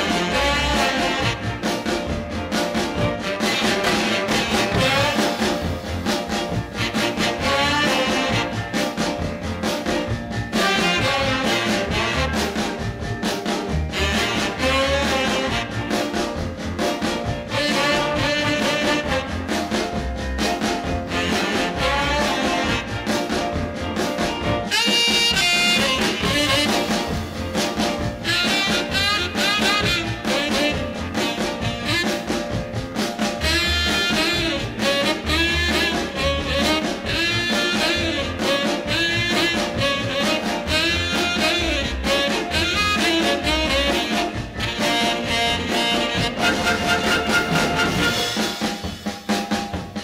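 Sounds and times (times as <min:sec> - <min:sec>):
bass line: 0:00.0 - 0:49.0
horn section playing: 0:00.0 - 0:49.1
drum kit beat: 0:00.0 - 0:50.0.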